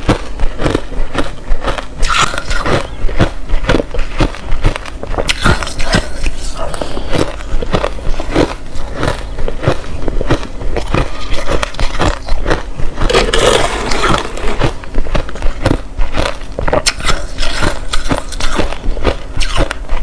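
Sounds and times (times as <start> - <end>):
chewing crushed ice: 0.0 - 20.0.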